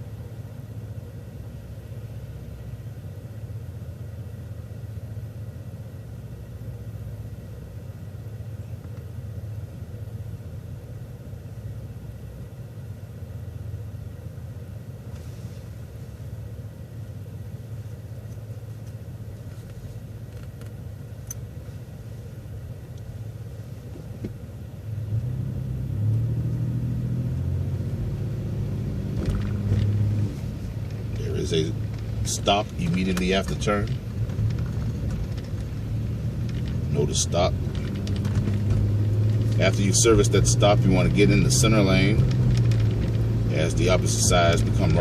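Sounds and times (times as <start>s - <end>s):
bus engine rumbling: 0.0s - 45.0s.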